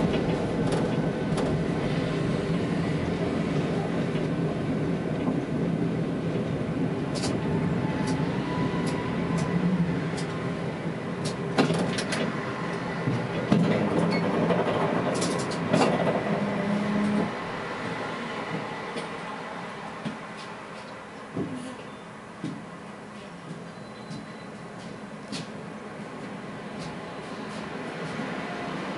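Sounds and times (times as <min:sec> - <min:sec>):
tram electrical hum: 0:00.0 - 0:28.9.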